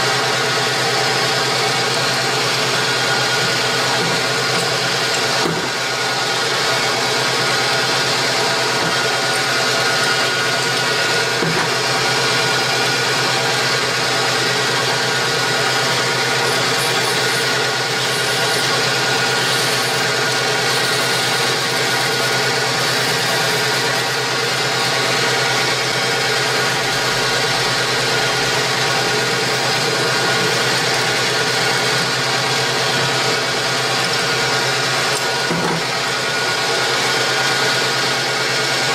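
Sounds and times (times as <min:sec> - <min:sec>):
metal lathe humming: 0:00.0 - 0:38.9.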